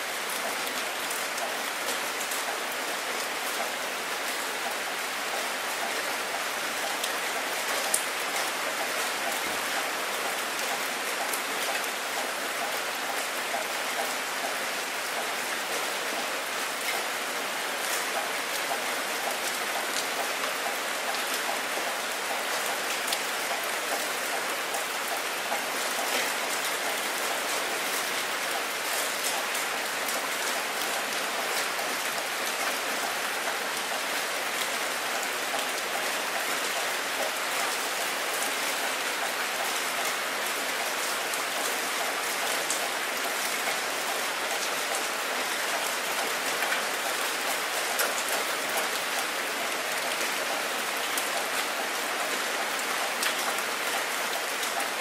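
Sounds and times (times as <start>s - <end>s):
rain falling on water: 0.0s - 55.0s.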